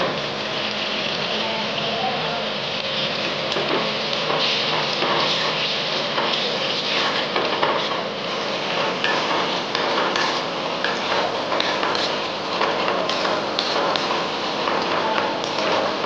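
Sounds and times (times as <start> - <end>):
curry bubbling in a wok: 0.0 - 16.0
spatula scraping a pan: 2.9 - 16.0.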